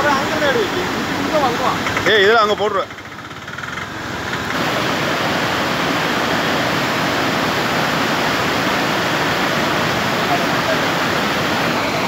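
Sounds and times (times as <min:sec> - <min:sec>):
river rushing over rocks: 0:00.0 - 0:02.9, 0:03.9 - 0:12.0.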